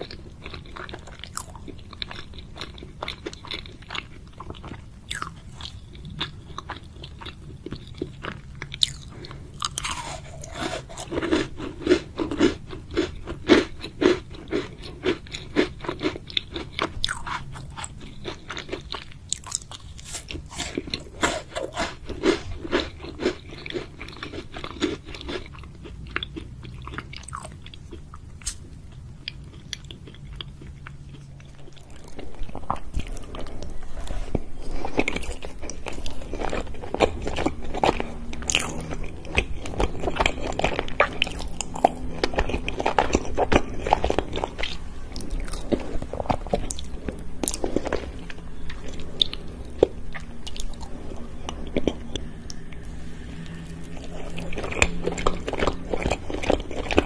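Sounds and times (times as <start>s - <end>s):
crunchy biscuit chewing: 0.0s - 57.0s.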